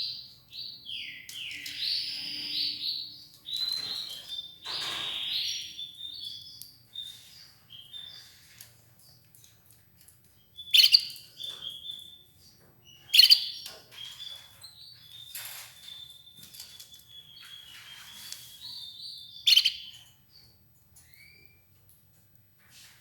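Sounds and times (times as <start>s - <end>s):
canary chirping: 0.1s - 9.3s, 10.2s - 21.7s.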